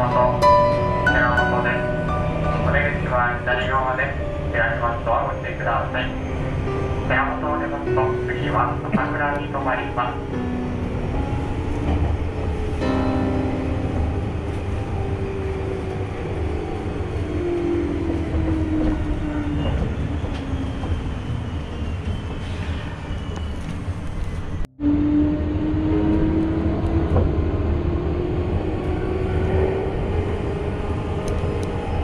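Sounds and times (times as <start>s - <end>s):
electric train rumble: 0.0s - 32.0s.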